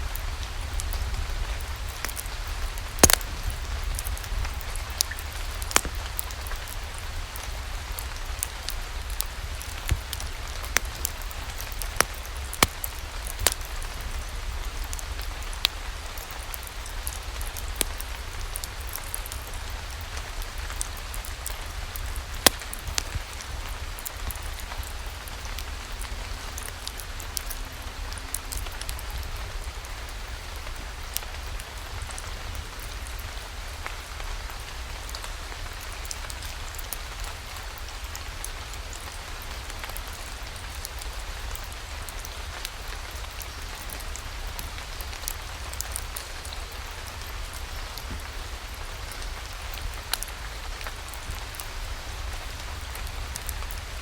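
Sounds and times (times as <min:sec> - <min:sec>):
log fire crackling: 0:00.0 - 0:54.0
steady rain with low rumble: 0:00.0 - 0:54.0.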